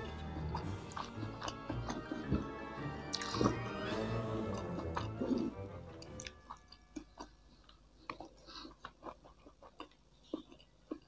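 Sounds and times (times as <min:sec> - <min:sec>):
close-up chewing: 0:00.0 - 0:11.0.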